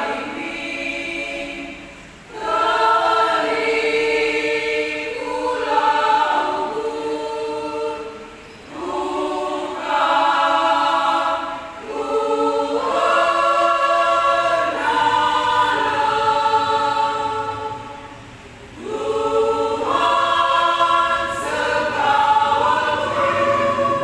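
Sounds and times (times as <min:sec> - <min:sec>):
women's choir singing a hymn: 0:00.0 - 0:24.0.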